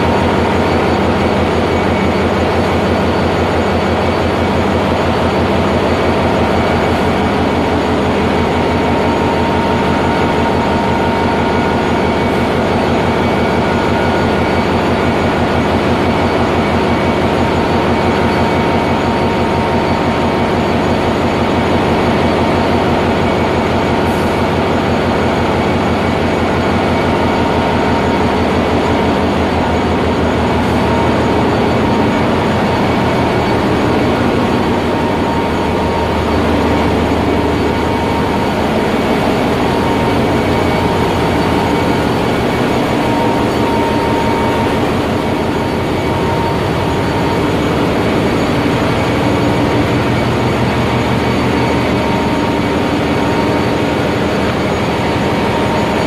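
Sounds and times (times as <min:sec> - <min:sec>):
engine room machinery din: 0:00.0 - 0:56.0
steady high whine: 0:00.0 - 0:56.0.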